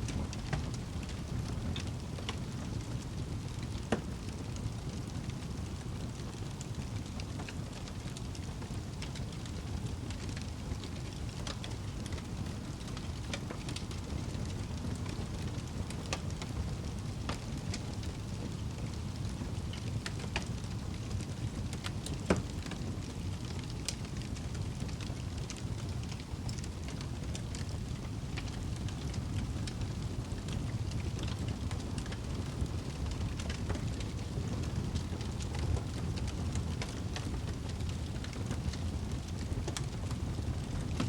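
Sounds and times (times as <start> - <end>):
fire crackling and popping: 0.0 - 41.0
fire flames rumbling: 0.0 - 41.0.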